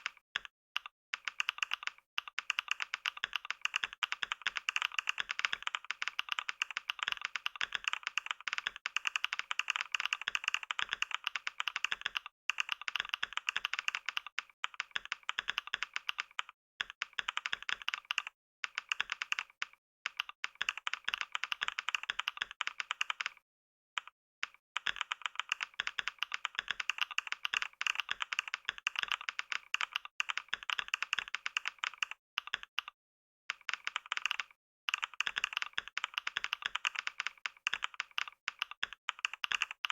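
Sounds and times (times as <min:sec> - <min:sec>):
rapid keyboard typing: 0:00.0 - 0:23.4, 0:24.0 - 0:39.9.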